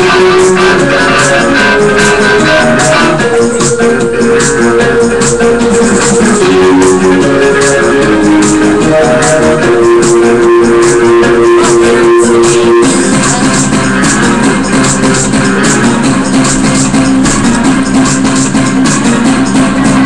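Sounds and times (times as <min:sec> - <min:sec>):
loud dance music: 0:00.0 - 0:20.0.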